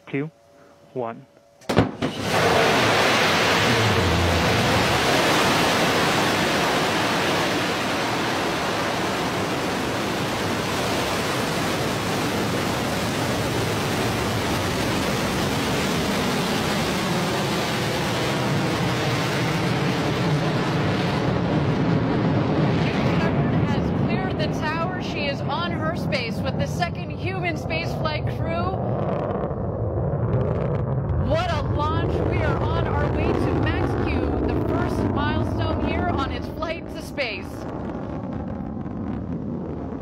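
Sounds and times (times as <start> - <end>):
rocket engine roaring: 1.6 - 40.0.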